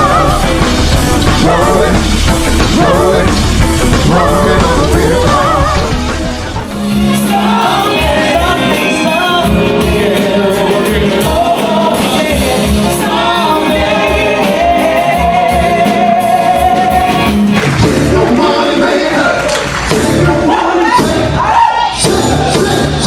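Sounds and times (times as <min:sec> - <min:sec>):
band with steady beat: 0:00.0 - 0:23.0
person singing soul: 0:00.0 - 0:23.0.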